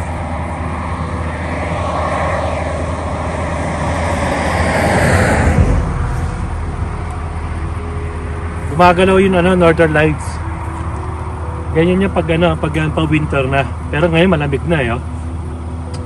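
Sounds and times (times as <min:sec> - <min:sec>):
steady low hum: 0:00.0 - 0:16.0
vehicle passing on road: 0:00.0 - 0:16.0.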